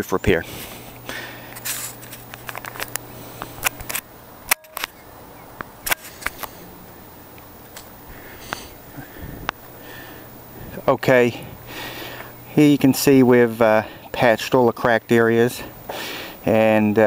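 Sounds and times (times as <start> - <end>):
low hum: 0.2 - 17.0.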